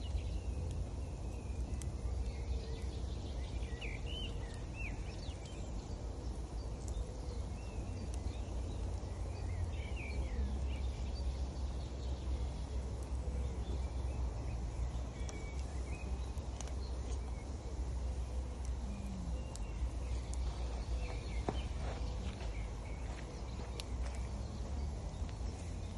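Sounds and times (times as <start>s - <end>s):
birds chirping: 0.0s - 25.9s
campfire crackles: 0.0s - 25.9s.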